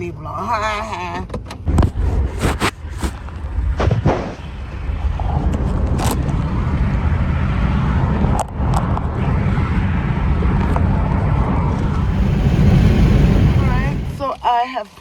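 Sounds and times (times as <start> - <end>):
engine and road rumble: 0.9 - 14.3.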